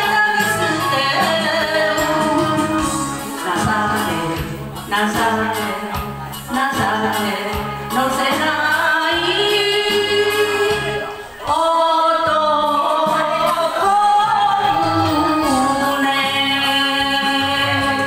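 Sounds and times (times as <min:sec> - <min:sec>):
karaoke backing track: 0:00.0 - 0:18.0
woman singing into microphone: 0:00.0 - 0:18.0.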